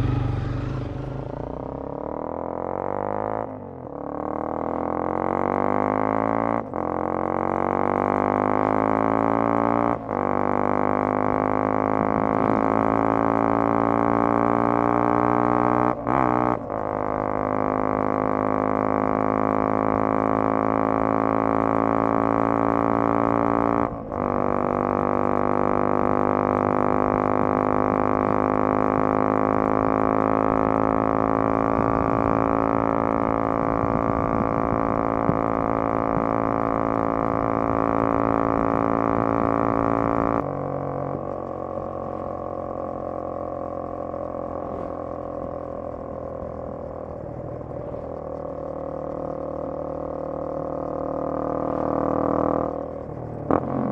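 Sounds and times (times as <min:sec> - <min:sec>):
motorcycle engine droning: 0:00.0 - 0:53.9.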